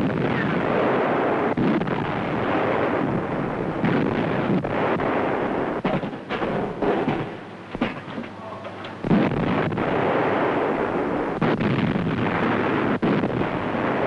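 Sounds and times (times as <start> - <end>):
naval gunfire and explosions: 0.0 - 14.0.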